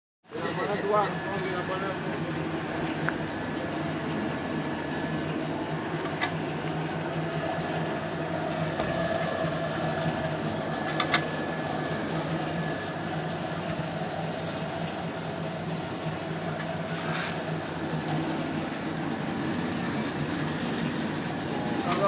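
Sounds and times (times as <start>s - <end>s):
motor and conveyor humming: 0.3s - 22.0s.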